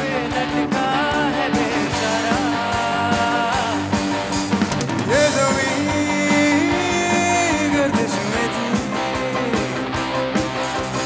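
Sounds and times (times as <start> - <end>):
voices singing: 0.0 - 10.3
bass guitar: 0.0 - 11.0
drum kit: 0.0 - 11.0
electric guitar: 0.0 - 11.0.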